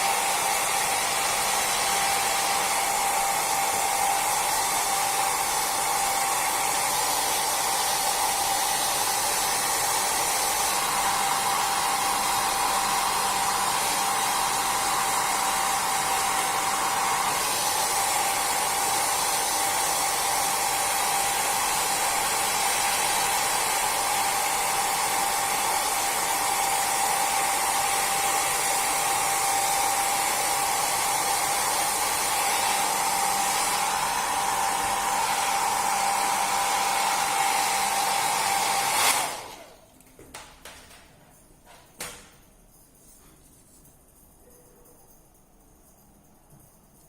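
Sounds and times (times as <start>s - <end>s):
hot-air blower whining: 0.0s - 39.9s.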